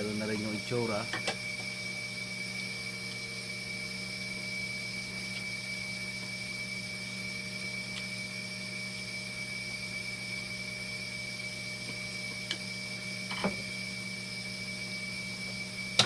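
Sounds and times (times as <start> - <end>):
high-pitched whine: 0.0 - 16.0
machinery humming: 0.0 - 16.0.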